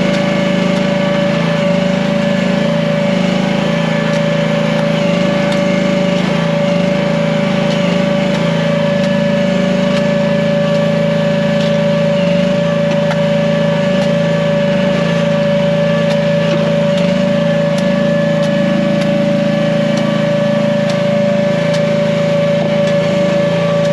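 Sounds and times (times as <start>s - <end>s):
mini excavator engine running: 0.0s - 23.9s.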